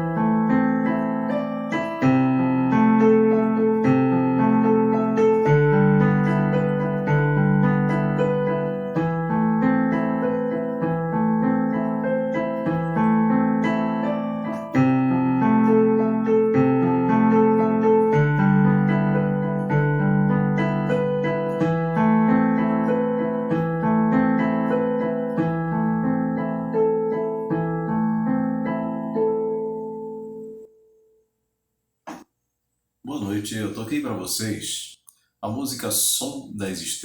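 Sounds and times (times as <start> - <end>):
slow piano piece: 0.0 - 31.3.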